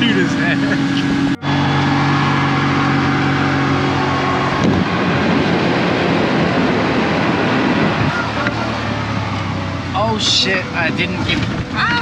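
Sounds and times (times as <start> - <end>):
tuk-tuk engine running: 0.0 - 12.0.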